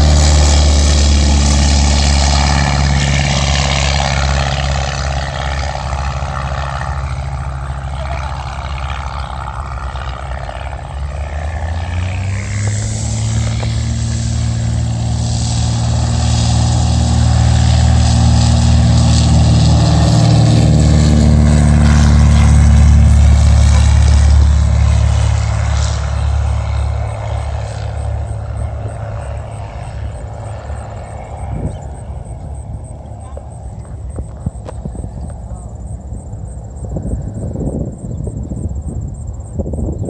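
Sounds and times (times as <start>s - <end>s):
propeller plane passing by: 0.0s - 40.0s.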